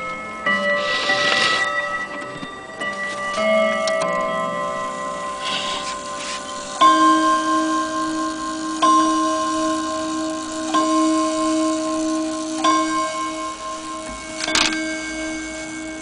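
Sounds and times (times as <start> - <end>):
clock chime rod strikes: 0.0 - 16.0.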